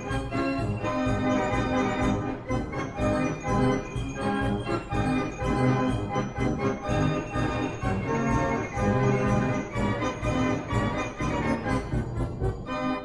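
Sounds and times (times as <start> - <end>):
organ chords over a beat: 0.0 - 13.0.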